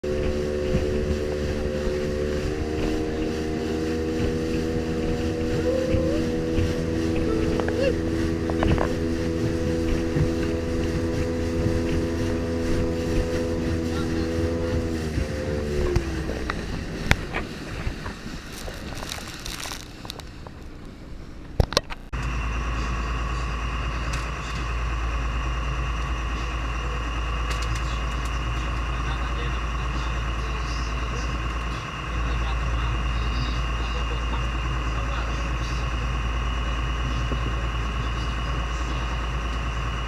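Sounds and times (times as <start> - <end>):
boat engine running: 0.0 - 40.0
engine hum with high whine: 0.0 - 40.0.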